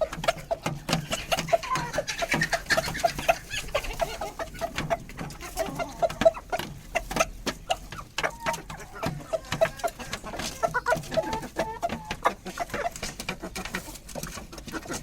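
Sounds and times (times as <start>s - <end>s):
chickens clucking softly: 0.0s - 15.0s.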